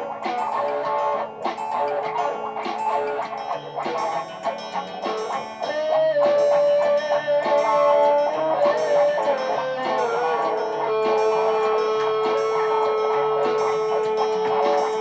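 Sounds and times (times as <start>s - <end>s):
electric guitar lead note: 0.0s - 15.0s.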